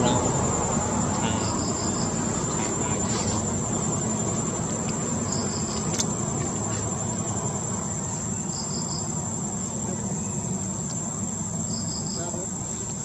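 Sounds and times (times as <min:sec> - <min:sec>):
insects droning: 0:00.0 - 0:13.0
quick insect chirps: 0:00.0 - 0:13.0.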